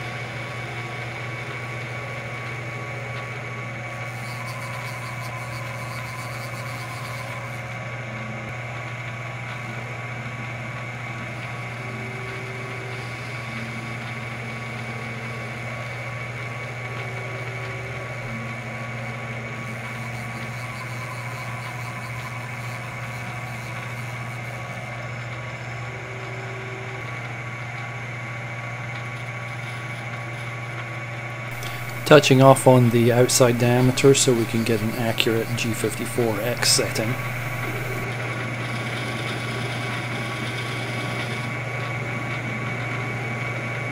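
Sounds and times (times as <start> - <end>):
lathe spindle hum and whine: 0.0 - 43.9.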